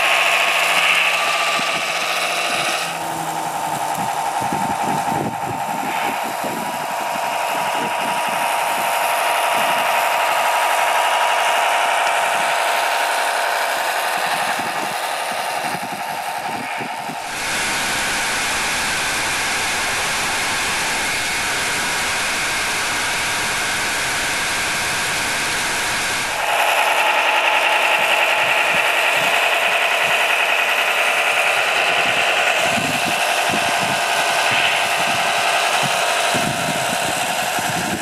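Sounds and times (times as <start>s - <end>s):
hissy drone: 0.0s - 38.0s
toy truck motor whining: 0.0s - 38.0s.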